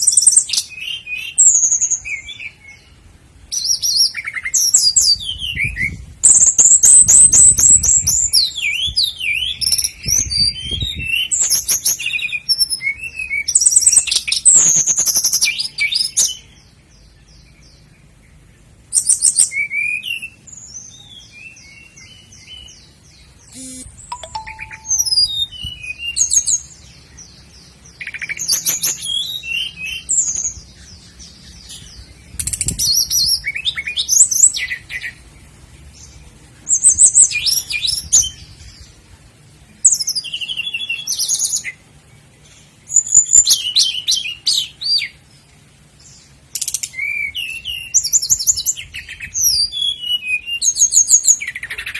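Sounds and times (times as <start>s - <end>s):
nightingale singing: 0.0s - 51.9s.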